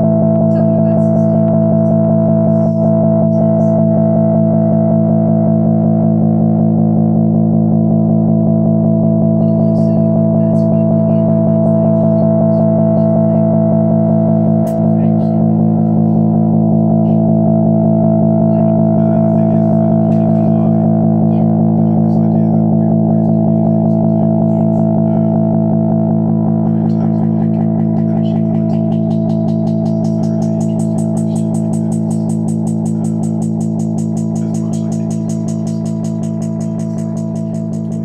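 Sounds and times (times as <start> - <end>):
loud droning chord: 0.0 - 38.0.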